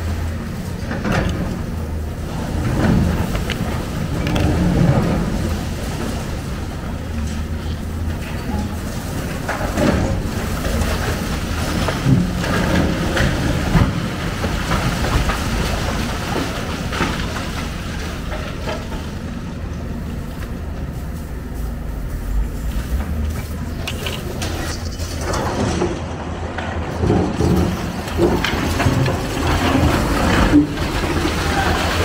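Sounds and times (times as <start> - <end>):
excavator diesel engine: 0.0 - 32.0
rubble clattering and falling: 0.8 - 19.3, 23.0 - 32.0
concrete crunching: 0.9 - 32.0.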